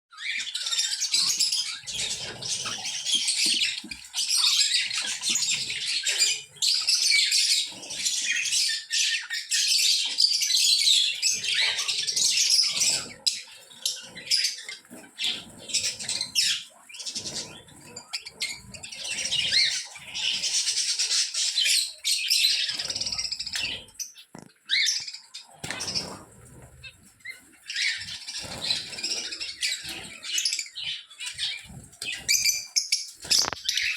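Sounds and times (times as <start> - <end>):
caged birds chirping: 0.1 - 33.9.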